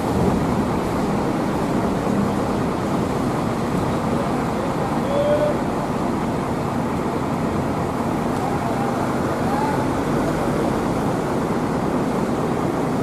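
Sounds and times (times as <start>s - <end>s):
traffic din: 0.0s - 13.0s.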